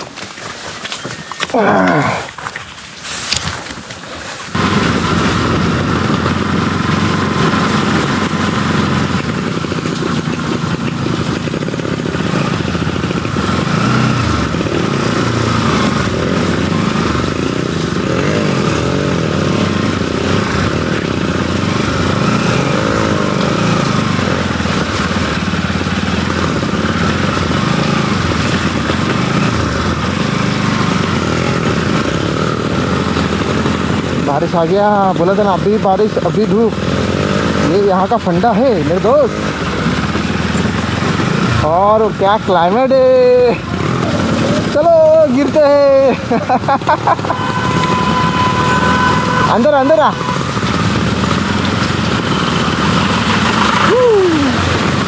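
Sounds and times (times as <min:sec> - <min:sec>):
motorcycle engine revving: 0:04.5 - 0:55.0.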